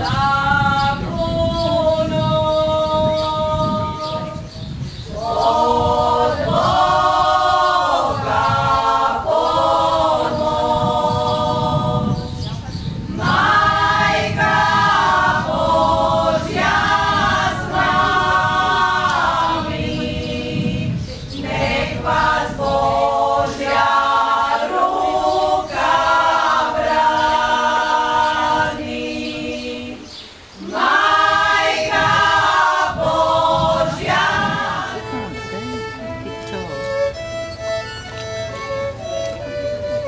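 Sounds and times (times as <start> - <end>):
group of voices singing in harmony: 0.0 - 35.7.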